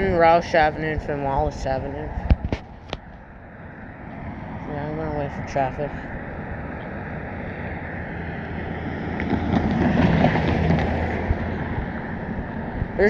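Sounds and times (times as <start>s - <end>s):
vehicle driving past: 0.0s - 13.0s
wind on microphone: 0.0s - 13.0s.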